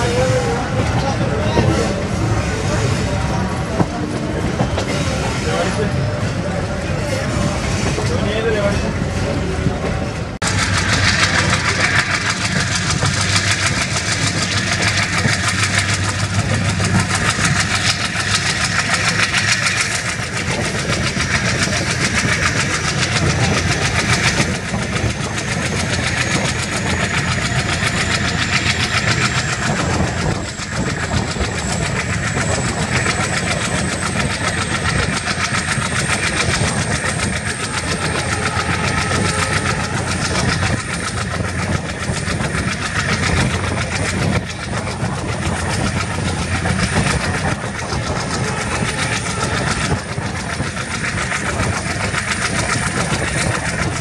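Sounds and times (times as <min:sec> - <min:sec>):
diesel locomotive engine drone: 0:00.0 - 0:54.0
rushing wind: 0:00.0 - 0:54.0
train wheels rumbling on rail: 0:00.0 - 0:54.0.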